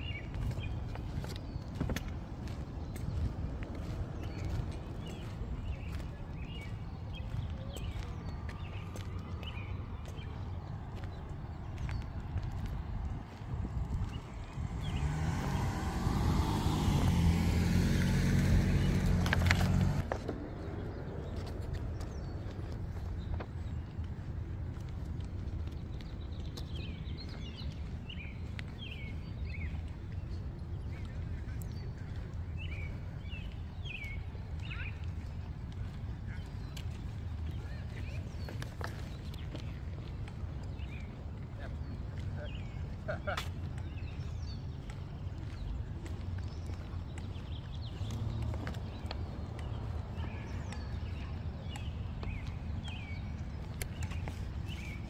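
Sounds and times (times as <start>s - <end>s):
small birds chirping: 0.0s - 55.0s
steady low rumble: 0.0s - 55.0s.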